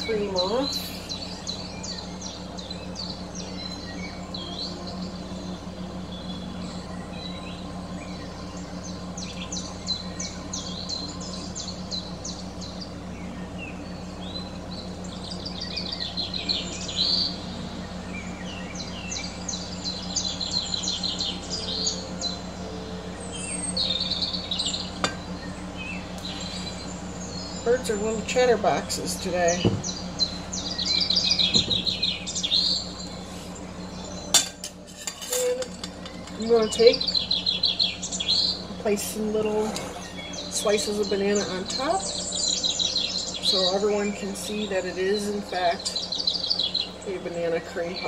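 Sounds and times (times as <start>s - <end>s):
low hum: 0.0s - 48.0s
songbirds chirping: 0.0s - 48.0s.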